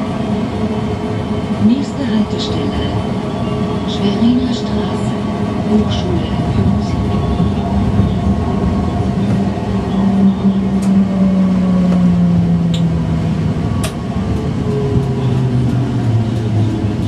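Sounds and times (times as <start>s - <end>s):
tram rumbling on track: 0.0s - 17.0s.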